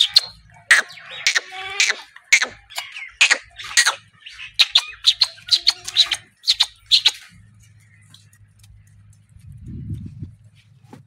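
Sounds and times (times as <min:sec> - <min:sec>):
birds chirping high and sharp: 0:00.0 - 0:09.2.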